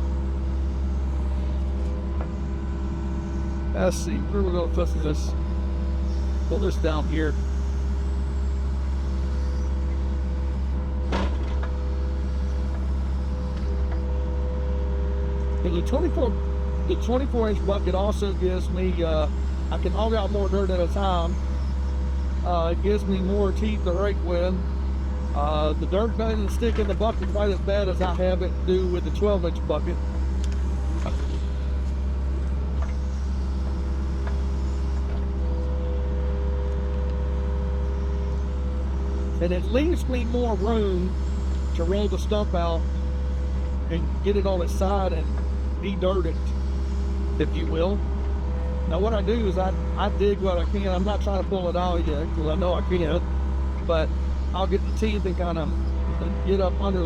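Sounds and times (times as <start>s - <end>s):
excavator diesel engine running: 0.0s - 57.0s
steady whine: 0.0s - 57.0s.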